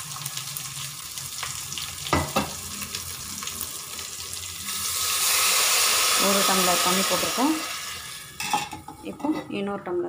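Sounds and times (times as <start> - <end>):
food sizzling in oil: 0.0 - 9.7.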